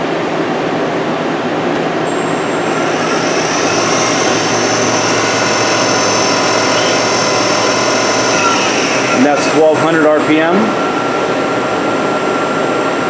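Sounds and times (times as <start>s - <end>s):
machine hum: 0.0s - 13.0s
milling machine spindle whine: 1.3s - 13.0s.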